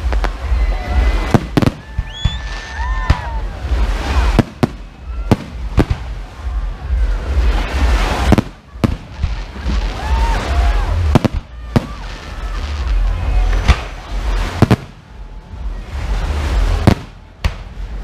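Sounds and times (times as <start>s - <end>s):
continuous rushing noise: 0.0s - 18.0s.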